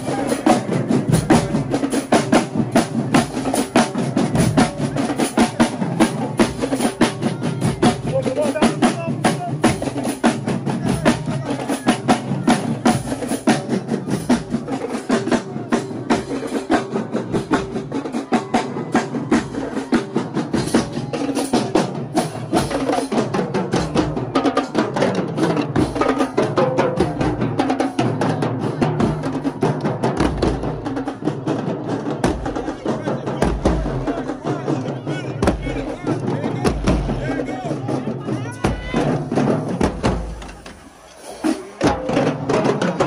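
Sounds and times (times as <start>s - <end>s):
marching drumline playing: 0.0s - 43.0s.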